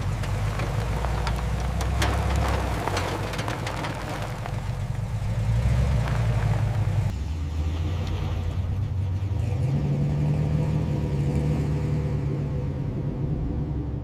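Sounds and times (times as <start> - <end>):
deep car engine rumble: 0.0 - 14.0.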